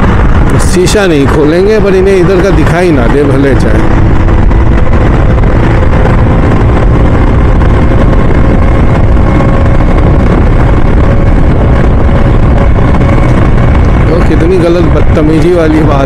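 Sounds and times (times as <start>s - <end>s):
motorcycle riding rumble: 0.0s - 16.0s.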